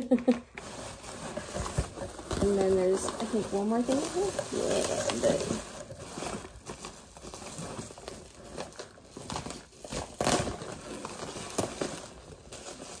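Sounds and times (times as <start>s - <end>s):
wrapping paper rustling: 0.0s - 13.0s.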